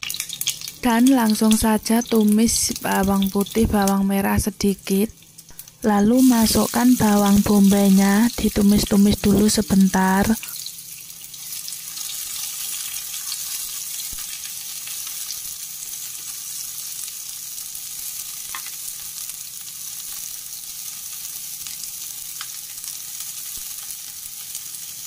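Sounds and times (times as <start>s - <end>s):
onion and garlic sizzling in oil: 0.0s - 25.0s.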